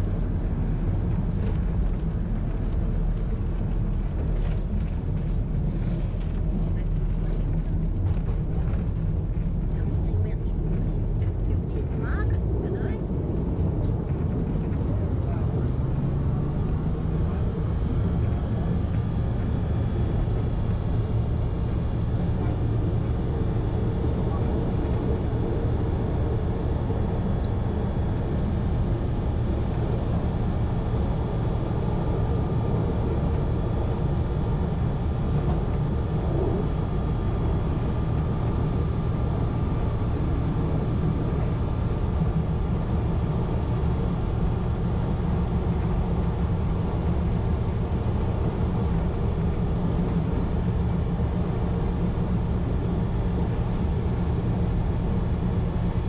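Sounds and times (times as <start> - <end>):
faint steady whine: 0.0 - 56.0
train engine and wheels droning: 0.0 - 56.0.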